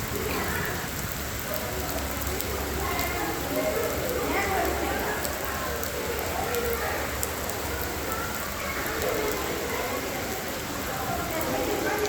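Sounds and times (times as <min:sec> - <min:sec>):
faint voices: 0:00.0 - 0:12.0
steady rain falling: 0:00.0 - 0:12.0.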